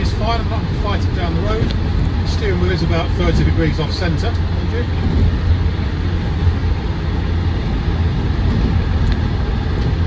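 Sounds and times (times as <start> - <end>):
diesel engine low rumble: 0.0 - 10.0
road noise: 0.0 - 10.0.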